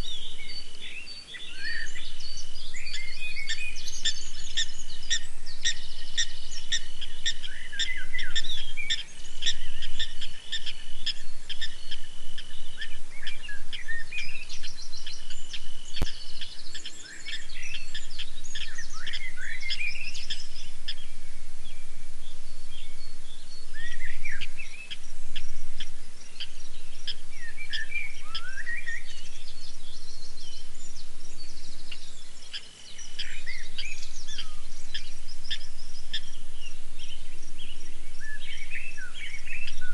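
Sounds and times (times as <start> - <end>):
night chorus of high calls: 0.0 - 39.9.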